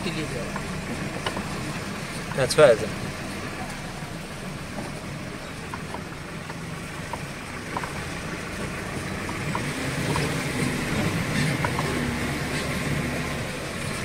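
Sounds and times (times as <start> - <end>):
road and wind noise: 0.0 - 14.0
vehicle engine running: 0.0 - 14.0.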